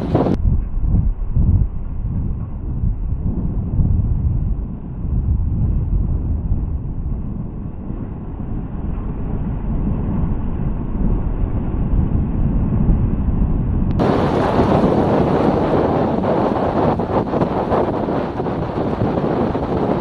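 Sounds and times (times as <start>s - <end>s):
road rumble: 0.0s - 20.0s
wind buffeting microphone: 0.0s - 20.0s.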